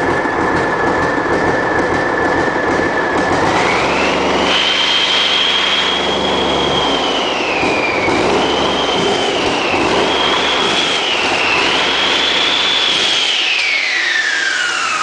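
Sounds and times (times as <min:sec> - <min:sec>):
diesel engine revving: 0:00.0 - 0:15.0
turbo whine: 0:00.0 - 0:15.0.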